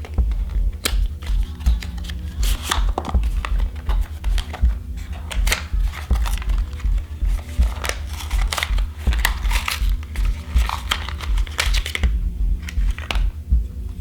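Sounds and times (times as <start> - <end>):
packaging being handled: 0.0 - 13.4
plastic accessories clicking: 0.0 - 13.4
music with pulsing low beat: 0.0 - 14.0.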